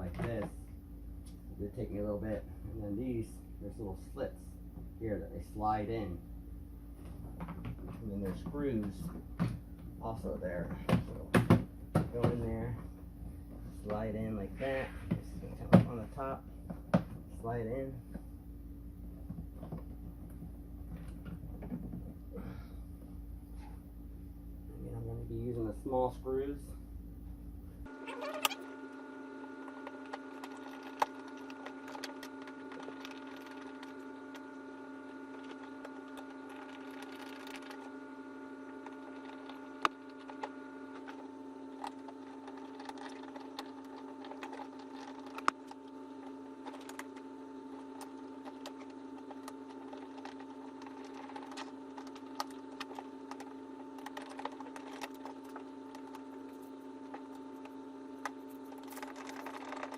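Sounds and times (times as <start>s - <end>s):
background hum: 0.0s - 59.9s.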